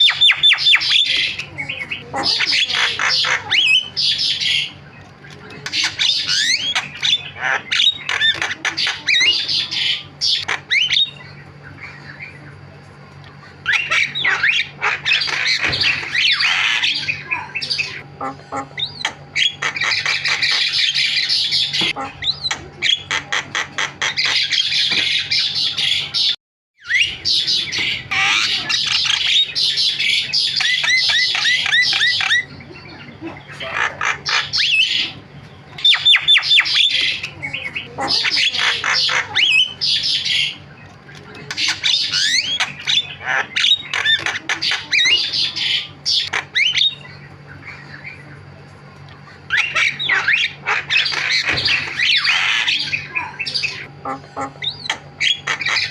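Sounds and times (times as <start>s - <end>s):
bird singing harsh squawks and whistles: 0.0s - 12.4s, 13.5s - 48.6s, 49.3s - 55.9s.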